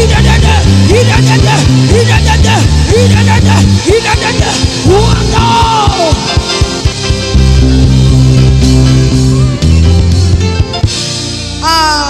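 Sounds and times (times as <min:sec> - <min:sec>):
guitar chords: 0:00.0 - 0:12.0
held bass notes: 0:00.0 - 0:12.0.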